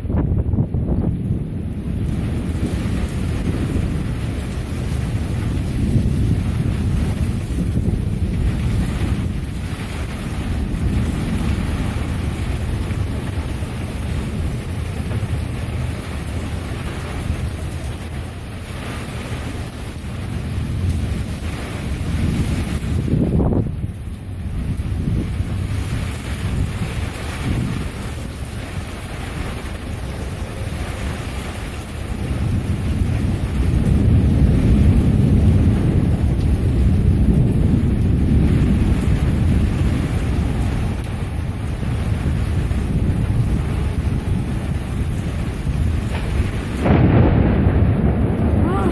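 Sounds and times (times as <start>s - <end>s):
rain hissing: 0.0s - 48.9s
rolling thunder: 0.0s - 48.9s
wind buffeting microphone: 0.0s - 48.9s.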